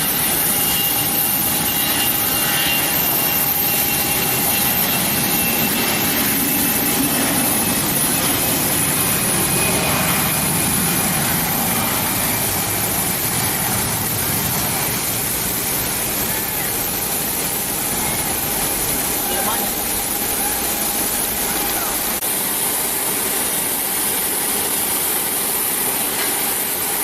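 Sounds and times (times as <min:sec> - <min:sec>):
jet engines with thin whine: 0:00.0 - 0:27.0.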